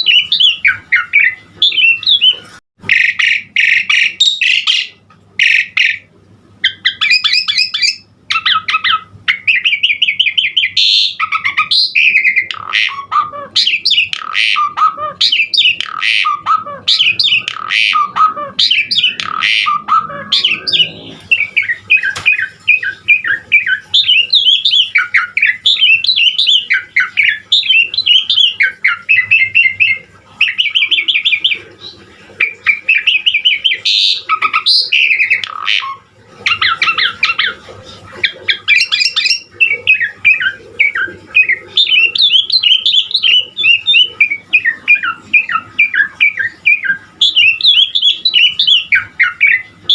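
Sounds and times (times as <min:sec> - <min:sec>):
starling singing: 0:00.0 - 0:49.9.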